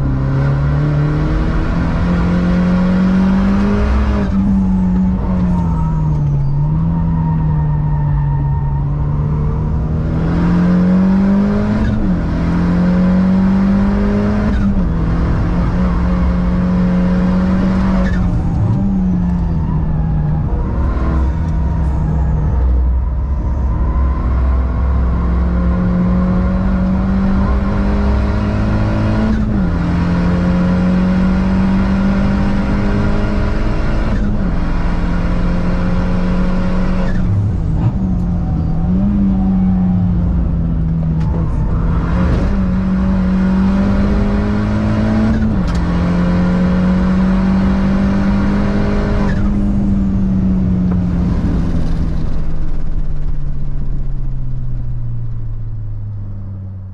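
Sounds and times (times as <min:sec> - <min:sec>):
car engine revving through gears: 0:00.0 - 0:56.9.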